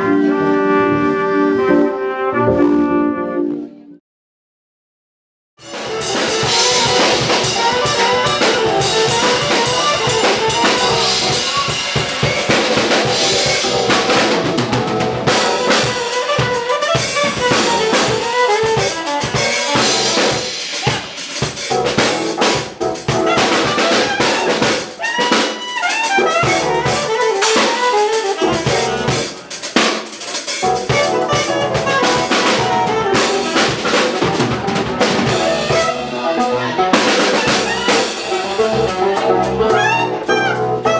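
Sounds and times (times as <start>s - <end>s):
band music: 0.0s - 4.0s, 5.6s - 40.9s
busy drum kit: 5.6s - 40.9s.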